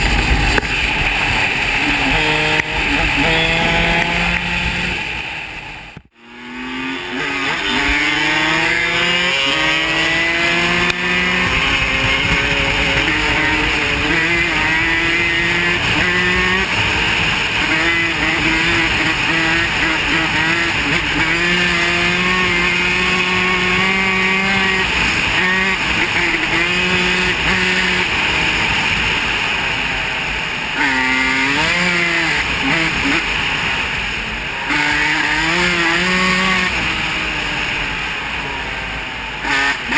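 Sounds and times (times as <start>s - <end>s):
off-road vehicle engine revving: 0.0s - 38.7s, 39.3s - 39.9s.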